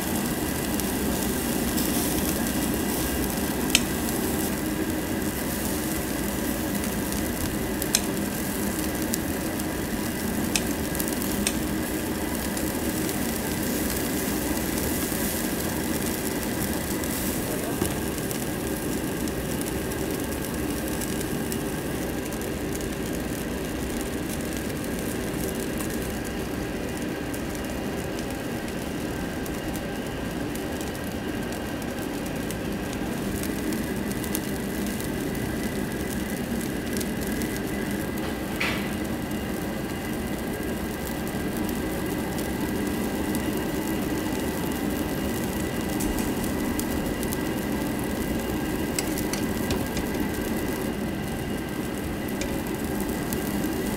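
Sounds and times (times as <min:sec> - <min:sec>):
meat fat sizzling and crackling: 0:00.0 - 0:53.9
ventilation roar: 0:00.0 - 0:53.9.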